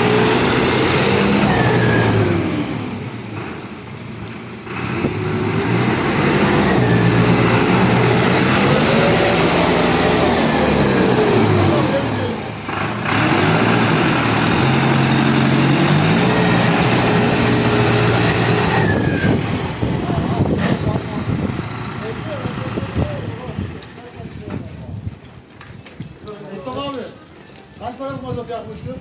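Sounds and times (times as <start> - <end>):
tractor diesel engine revving: 0.0 - 24.6.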